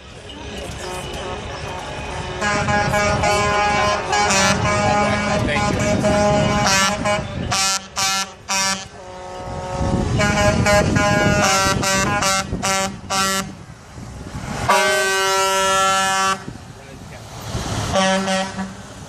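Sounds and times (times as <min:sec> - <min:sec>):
truck engines rumbling: 0:00.0 - 0:19.0
truck air horn blasts: 0:00.8 - 0:13.6, 0:14.6 - 0:16.5, 0:17.9 - 0:18.8.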